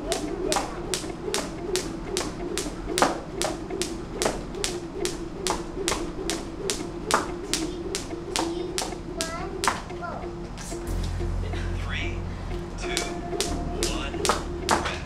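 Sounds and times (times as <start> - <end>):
skipping rope slapping concrete: 0.0 - 10.0, 12.6 - 15.0.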